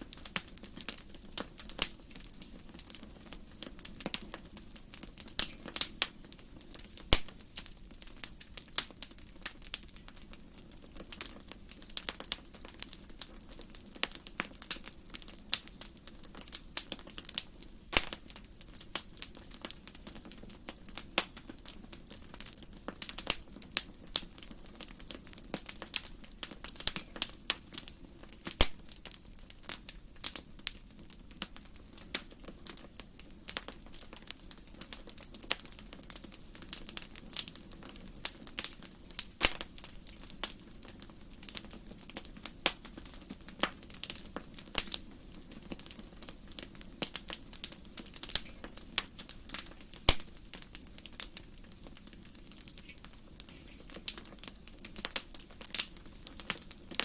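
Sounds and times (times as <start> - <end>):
fire hissing: 0.0 - 30.8, 31.7 - 57.0
wood fire crackling and popping: 0.0 - 57.0.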